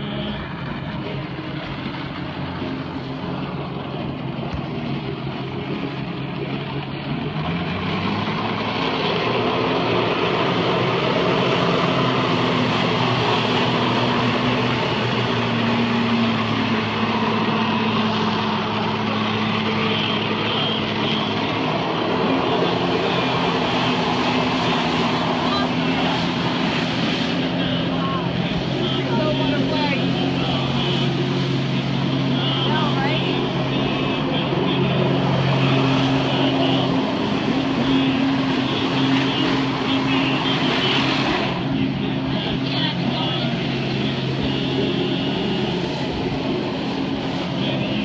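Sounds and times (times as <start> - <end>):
jet ski engine revving: 0.0 - 48.0
water jets rushing: 0.0 - 48.0.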